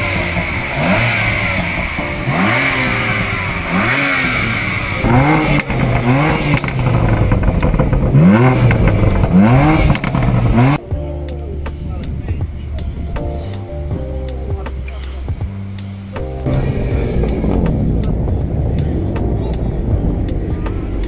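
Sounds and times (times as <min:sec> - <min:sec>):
car engine revving in blips: 0:00.0 - 0:10.8, 0:11.8 - 0:21.0.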